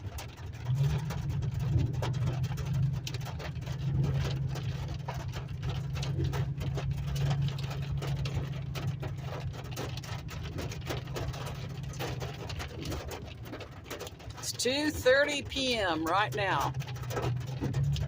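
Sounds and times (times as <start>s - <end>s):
hail ticking on vehicle: 0.0s - 18.0s
vehicle engine and road drone: 0.0s - 18.0s.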